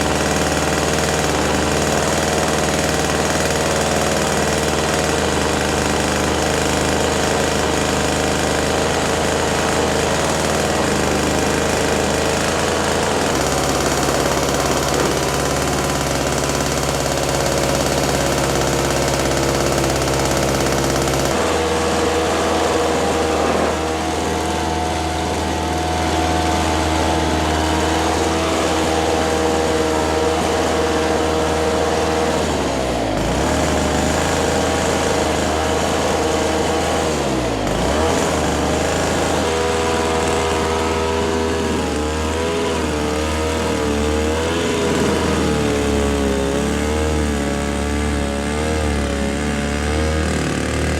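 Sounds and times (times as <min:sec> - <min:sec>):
snowthrower engine running: 0:00.0 - 0:50.9.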